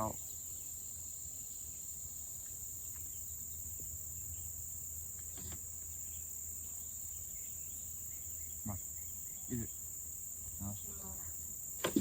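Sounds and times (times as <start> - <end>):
insects singing: 0.0 - 12.0.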